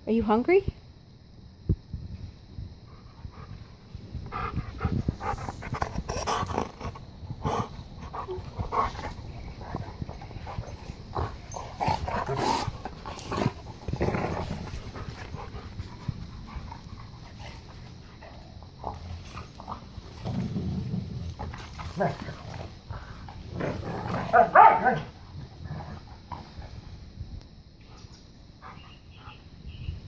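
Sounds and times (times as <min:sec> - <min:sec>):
dogs play-fighting noises: 0:03.0 - 0:27.0, 0:27.8 - 0:29.5.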